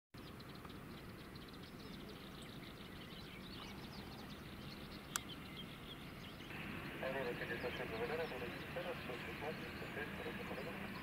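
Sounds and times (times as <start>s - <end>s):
birds chirping: 0.2s - 11.0s
steady low rumble: 0.4s - 11.0s.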